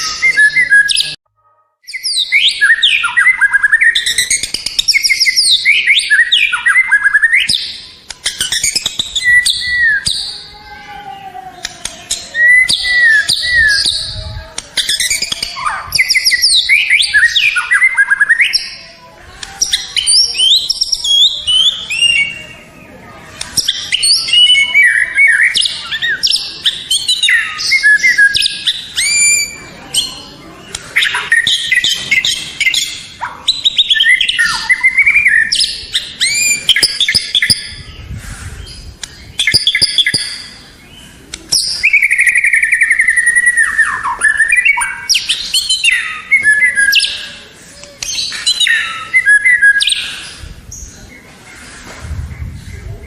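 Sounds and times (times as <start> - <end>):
bird singing whistles and trills: 0.0 - 1.2, 1.8 - 10.5, 11.8 - 18.8, 19.6 - 22.6, 23.5 - 30.3, 31.0 - 47.4, 48.0 - 51.0.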